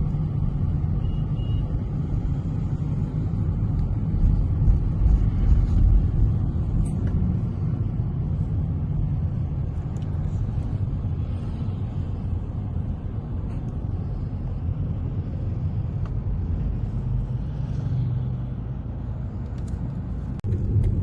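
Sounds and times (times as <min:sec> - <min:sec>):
car interior low rumble: 0:00.0 - 0:21.0.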